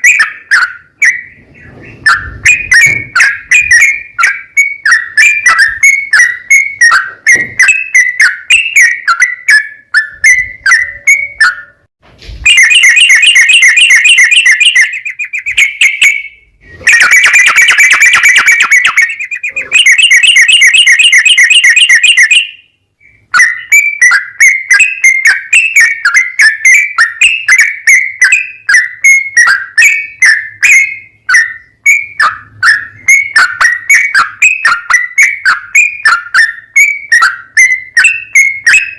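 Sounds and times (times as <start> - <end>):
bulbul chirping: 0.0 - 11.8, 12.5 - 38.9
fast rattling bird trills: 0.0 - 11.8, 12.4 - 38.9.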